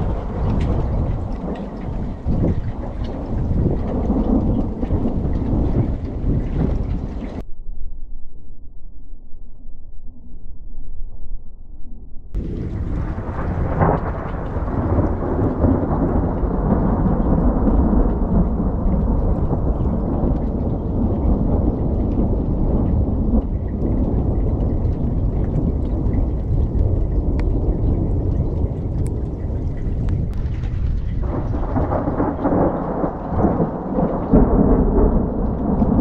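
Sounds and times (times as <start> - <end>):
rain drops ticking: 0.0 - 7.4, 12.4 - 36.0
deep thunder rumble: 0.0 - 7.9, 12.0 - 36.0.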